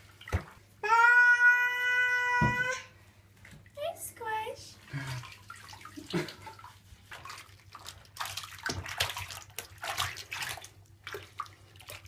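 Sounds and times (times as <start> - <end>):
water splashing in a tub: 0.0 - 3.8, 4.8 - 12.0.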